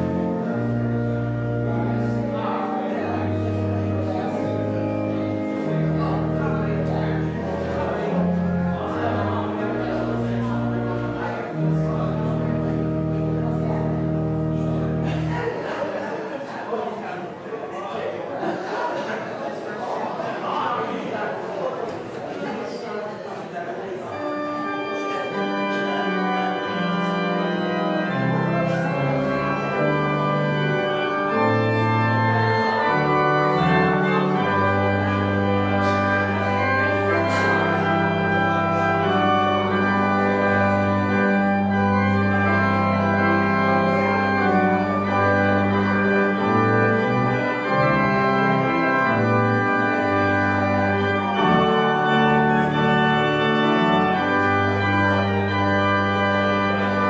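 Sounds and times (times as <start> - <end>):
organ playing slow chords: 0.0 - 15.6, 24.1 - 57.0.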